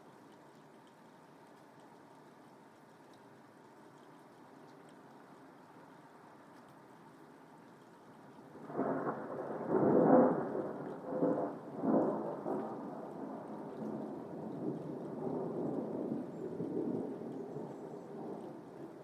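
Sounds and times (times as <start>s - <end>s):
faint rain: 0.0s - 19.0s.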